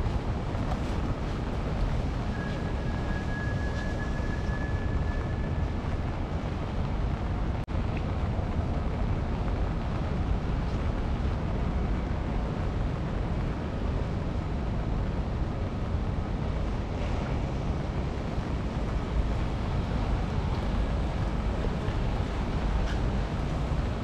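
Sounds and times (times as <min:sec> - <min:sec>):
low city rumble: 0:00.0 - 0:24.0
wet hiss of rain: 0:00.0 - 0:24.0.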